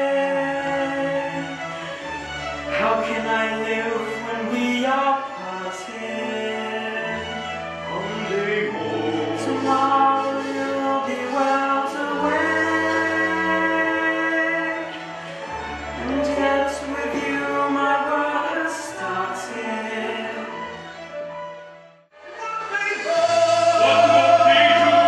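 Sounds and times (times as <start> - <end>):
choir singing: 2.7 - 20.7, 22.6 - 25.0.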